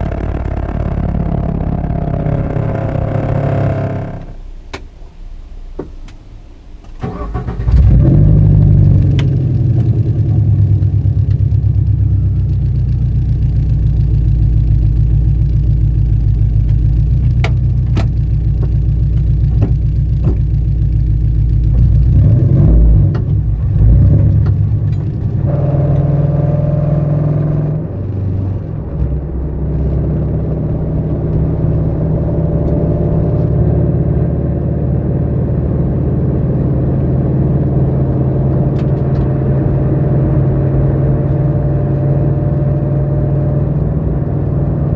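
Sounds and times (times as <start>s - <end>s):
car engine rumbling: 0.0s - 44.9s.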